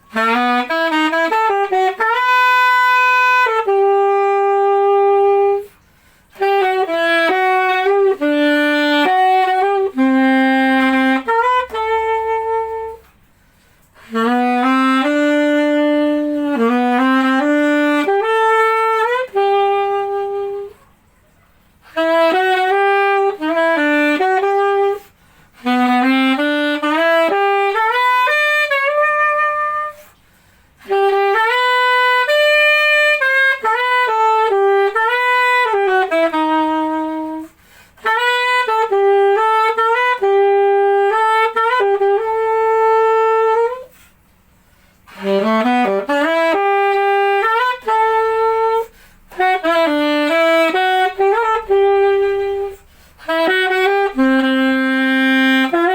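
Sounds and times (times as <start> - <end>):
solo saxophone melody: 0.0 - 55.9.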